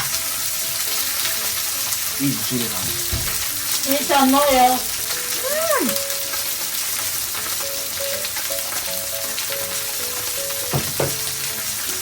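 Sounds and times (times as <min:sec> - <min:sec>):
faint background music: 0:00.0 - 0:12.0
meat sizzling on a hot plate: 0:00.0 - 0:12.0.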